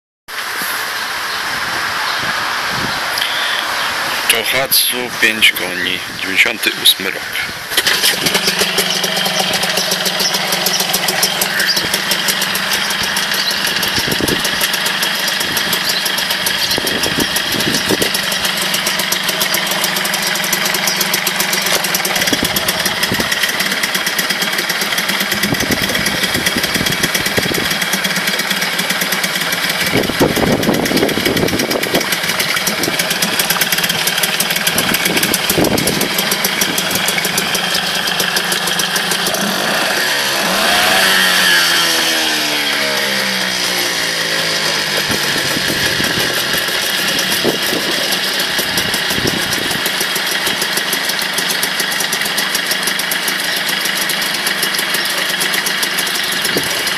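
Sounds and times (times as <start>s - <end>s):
propeller churning water: 0.3s - 56.9s
outboard motor running: 3.2s - 56.9s.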